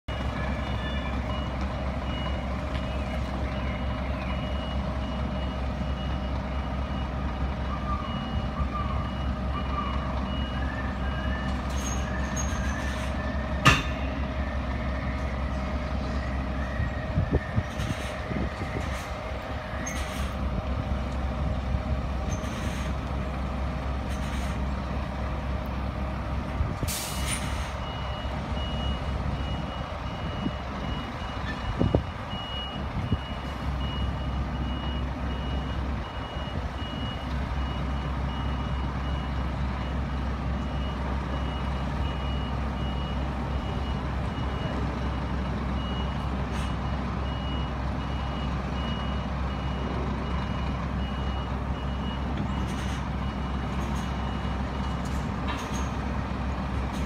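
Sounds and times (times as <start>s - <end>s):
lorry diesel engine running: 0.0s - 57.0s
reversing alarm beeping: 0.1s - 20.4s, 27.0s - 56.0s.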